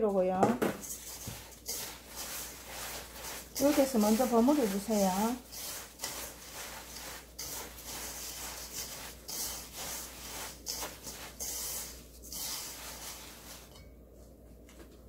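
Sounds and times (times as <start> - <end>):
sugar scraping in a steel bowl: 0.8 - 14.0.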